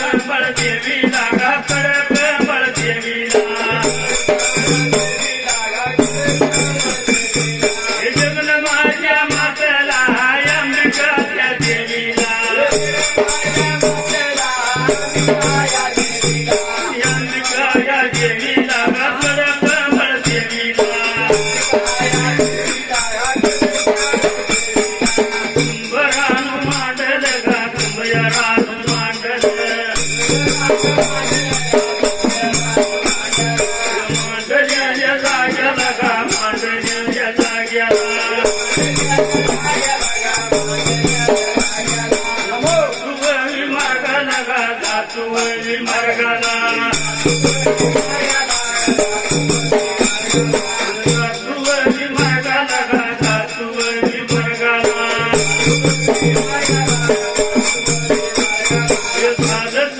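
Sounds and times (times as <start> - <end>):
drum beats: 0.0 - 59.9
jingling rattles or small cymbals: 0.0 - 59.9.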